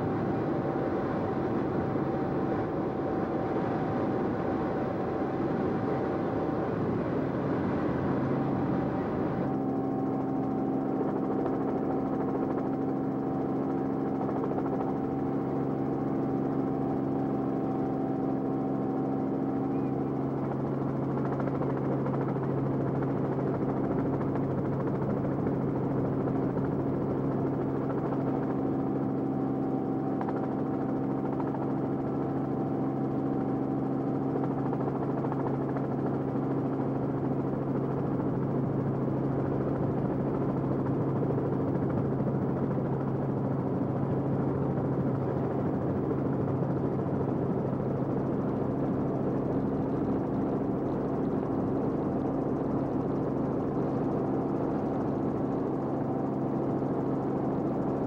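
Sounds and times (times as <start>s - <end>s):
aircraft engine droning: 0.0s - 22.4s, 27.8s - 58.0s.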